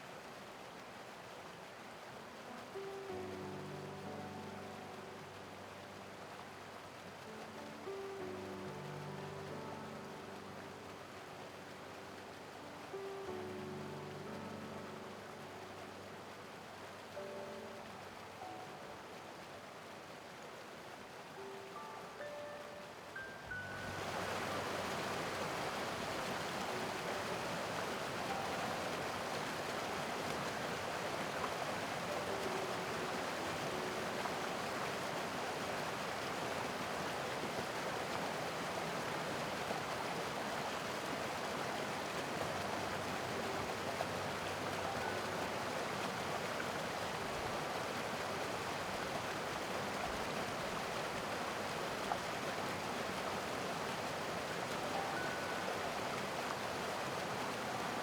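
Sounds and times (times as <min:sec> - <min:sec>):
creek rushing over rocks: 0:00.0 - 0:58.0.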